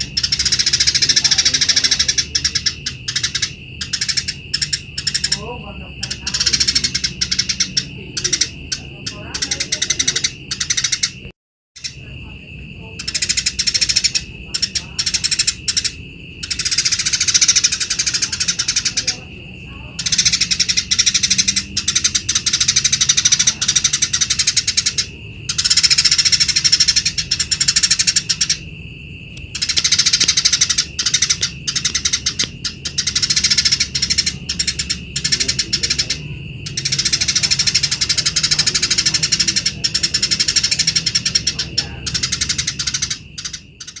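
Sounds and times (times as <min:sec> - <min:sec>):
sparrow chattering chirps: 0:00.0 - 0:12.2, 0:12.8 - 0:44.0
steady high tone: 0:00.0 - 0:44.0.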